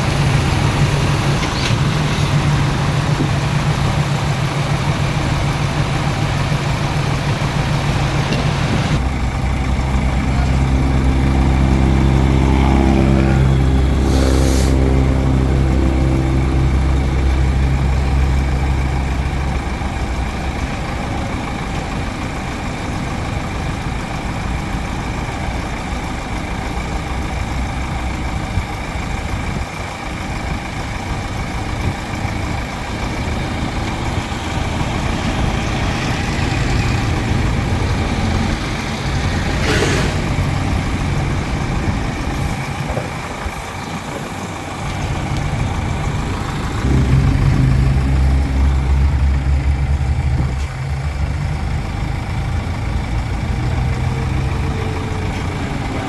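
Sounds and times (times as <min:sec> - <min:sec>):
deeper louder engine: 0:00.0 - 0:56.0
heavy diesel engines running: 0:00.0 - 0:56.0.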